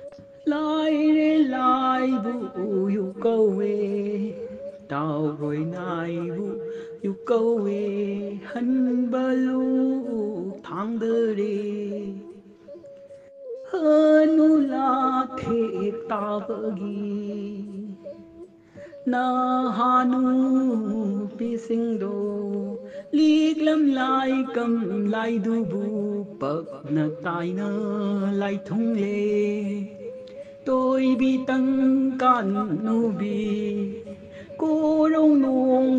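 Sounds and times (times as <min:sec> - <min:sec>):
person singing slow melody: 0:00.0 - 0:35.9.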